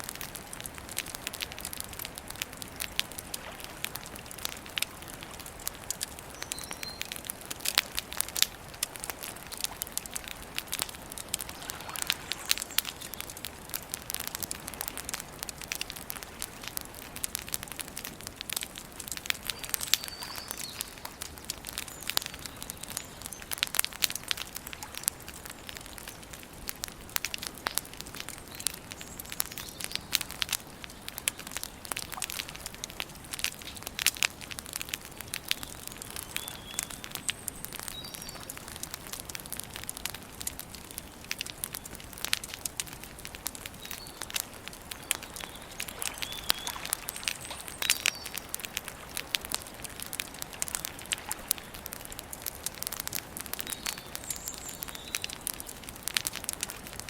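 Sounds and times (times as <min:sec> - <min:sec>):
campfire crackling and popping: 0:00.0 - 0:57.0
soft fire hiss: 0:00.0 - 0:57.0.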